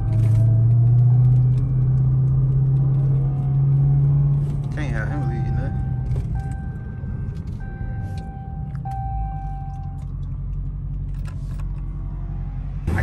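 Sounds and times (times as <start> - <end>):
car engine rumbling at cruise: 0.0 - 13.0.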